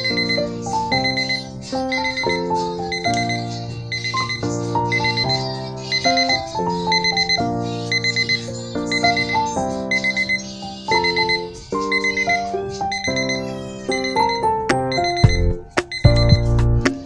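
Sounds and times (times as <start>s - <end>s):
kitchen timer alarm beeping: 0.0s - 16.5s
background music: 0.0s - 17.0s.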